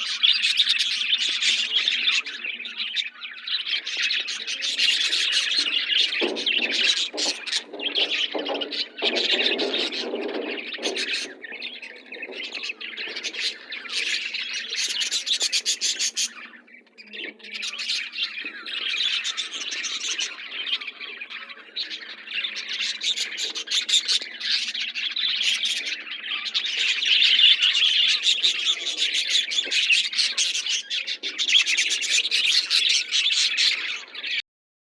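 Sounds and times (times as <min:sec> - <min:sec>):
budgies and lovebirds chattering: 0:00.0 - 0:34.4.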